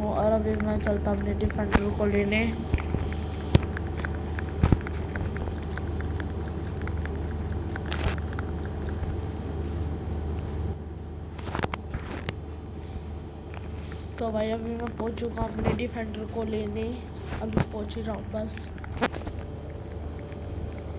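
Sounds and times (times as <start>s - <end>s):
road vehicle rumble: 0.0s - 20.9s.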